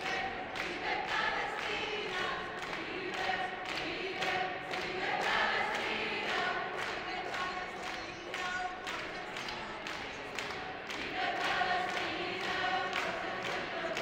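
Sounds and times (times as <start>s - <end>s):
crowd singing: 0.0s - 14.0s.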